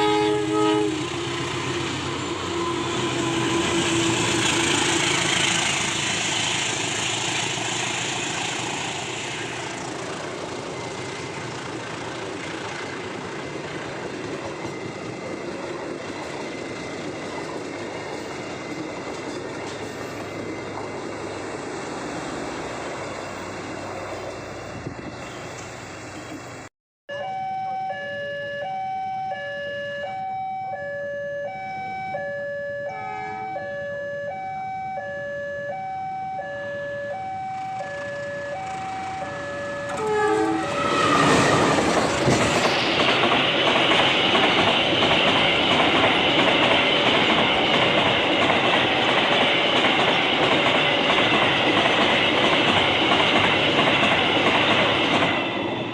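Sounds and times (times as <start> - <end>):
train passing: 0.0 - 26.7, 31.4 - 55.9.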